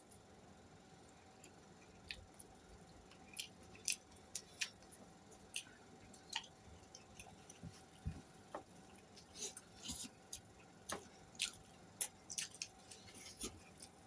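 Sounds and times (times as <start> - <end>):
chewing: 1.4 - 14.0.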